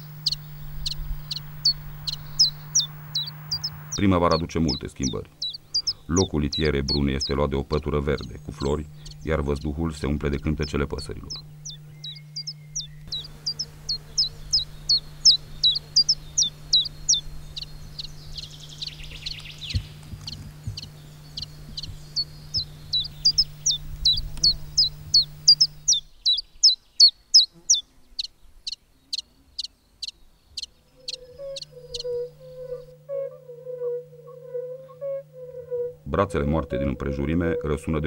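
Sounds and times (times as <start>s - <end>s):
low steady hum: 0.0s - 26.6s, 29.4s - 38.0s
songbird singing: 0.0s - 38.0s.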